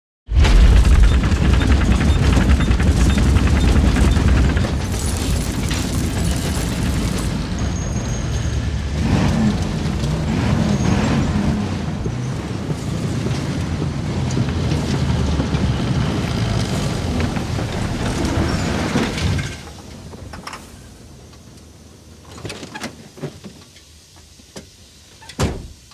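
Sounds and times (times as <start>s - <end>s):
tyres churning through dirt: 0.3s - 23.8s
truck engine rumble: 0.3s - 24.8s.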